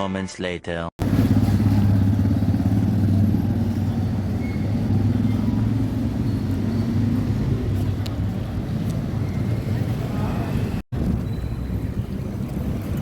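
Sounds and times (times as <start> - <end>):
road noise: 1.0 - 13.0
vehicle engine droning: 1.0 - 13.0.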